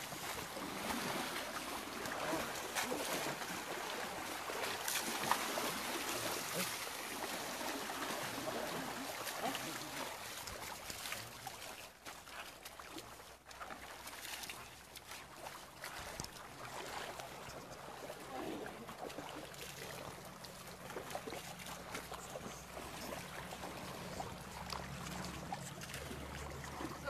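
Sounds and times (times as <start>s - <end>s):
water splashing and trickling: 0.0s - 27.0s.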